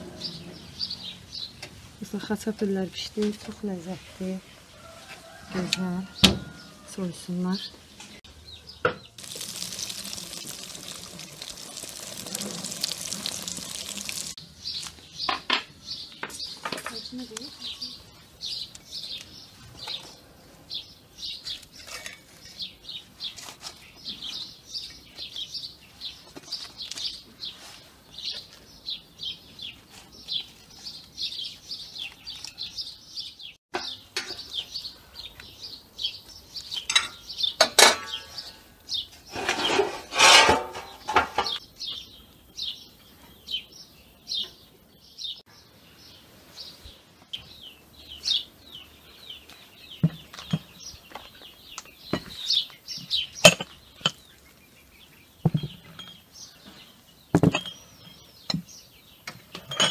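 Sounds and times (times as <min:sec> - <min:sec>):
small birds chirping: 0:00.0 - 0:39.8, 0:40.8 - 0:59.9.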